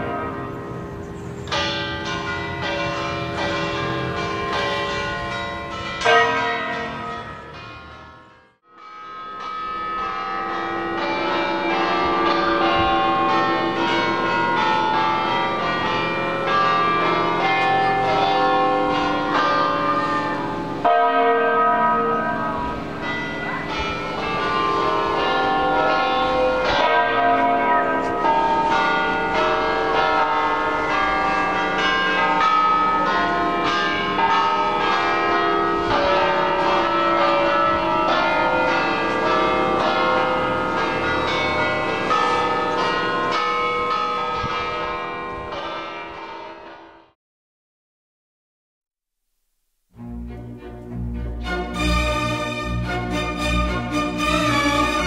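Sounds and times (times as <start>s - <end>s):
church bells pealing: 0.0s - 47.2s, 50.0s - 55.0s.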